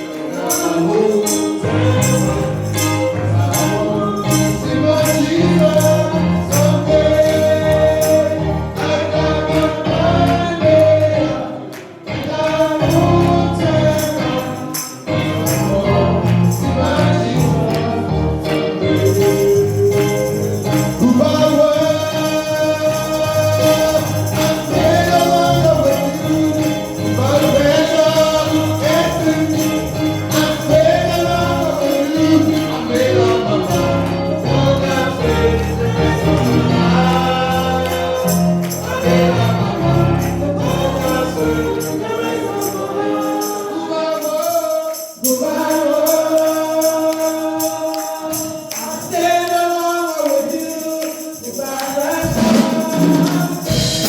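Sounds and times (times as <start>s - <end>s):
instrumental backing: 0.0s - 46.8s, 51.4s - 54.0s
choir singing gospel: 0.0s - 54.0s
tambourine: 0.0s - 54.0s.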